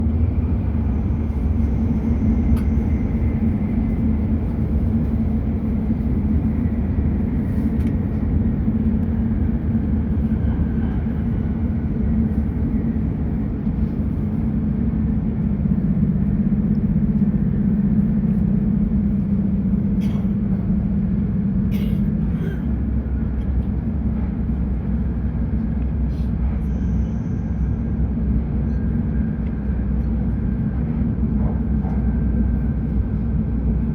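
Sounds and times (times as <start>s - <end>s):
train running at speed: 0.0s - 33.9s.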